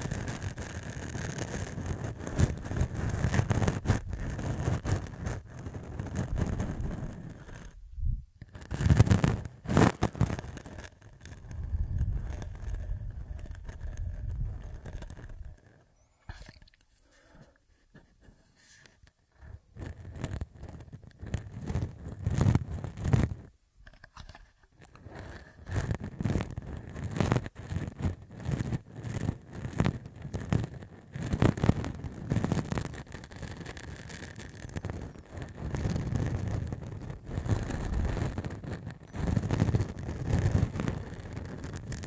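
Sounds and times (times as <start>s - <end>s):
stubble scratching on microphone: 0.0s - 16.8s, 17.7s - 42.0s.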